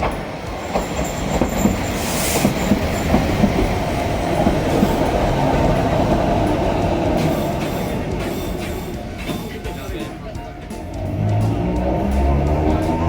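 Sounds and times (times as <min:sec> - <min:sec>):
electric train rumbling: 0:00.0 - 0:13.0
wheels clicking over track: 0:00.0 - 0:13.0.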